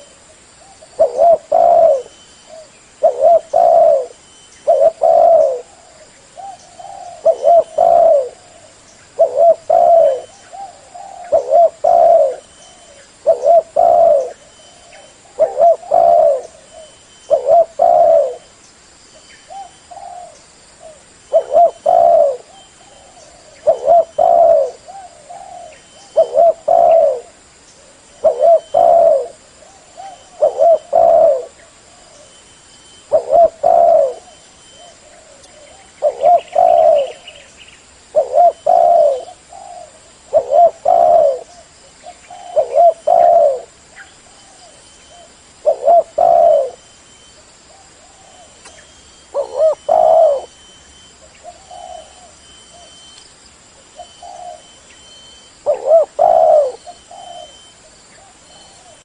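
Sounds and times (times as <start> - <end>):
dove cooing: 0.0 - 18.6, 19.5 - 46.9, 47.7 - 53.2, 53.8 - 59.0.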